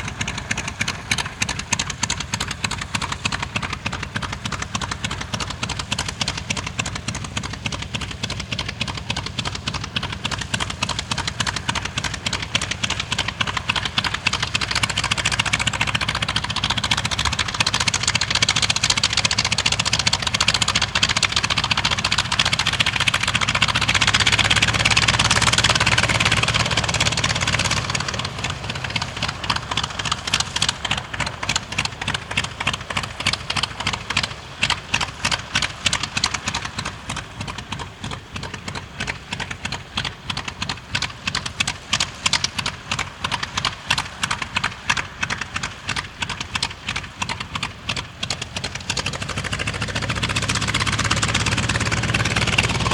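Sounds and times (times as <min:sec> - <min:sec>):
aircraft radial engine throbbing: 0:00.0 - 0:52.9.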